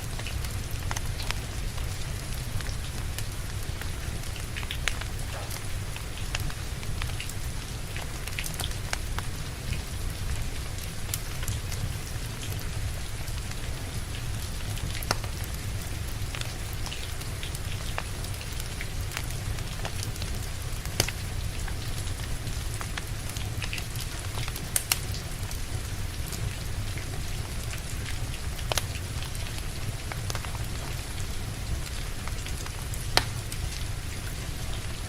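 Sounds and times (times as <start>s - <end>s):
steady rain: 0.0s - 35.0s
wood fire crackling: 0.0s - 35.0s.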